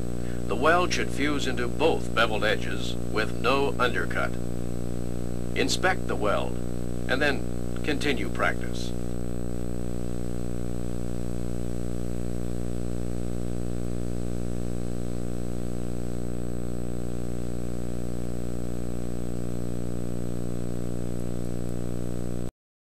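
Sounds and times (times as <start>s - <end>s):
electrical mains hum: 0.0s - 22.5s
faint high whine: 0.0s - 22.5s.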